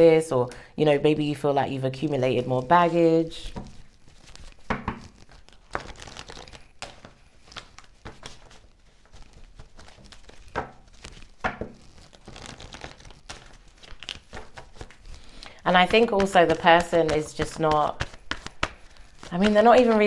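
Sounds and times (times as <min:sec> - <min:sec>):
cards being shuffled: 0:02.3 - 0:20.0.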